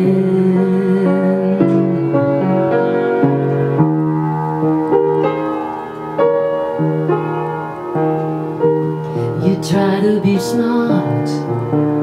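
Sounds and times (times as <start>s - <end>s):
piano playing chords: 0.0s - 12.0s.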